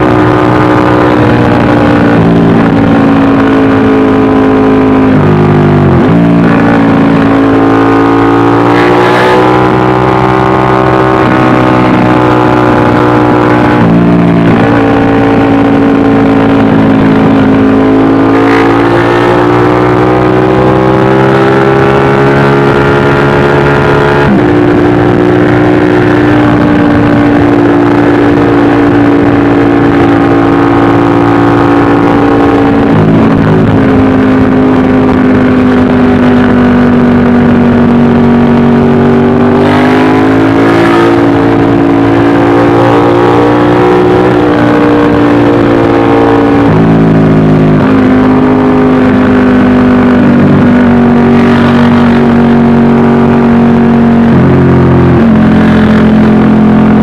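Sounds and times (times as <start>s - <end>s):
motorcycle engine at highway speed: 0.0s - 57.0s
rush of noise: 0.0s - 57.0s.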